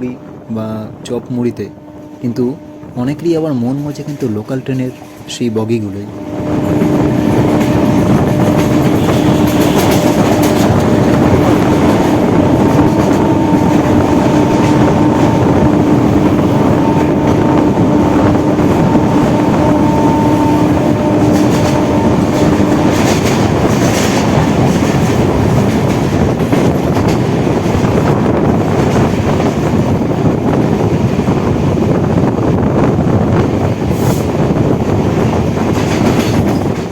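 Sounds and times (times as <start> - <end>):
train wheels rushing on rails: 1.7 - 36.9.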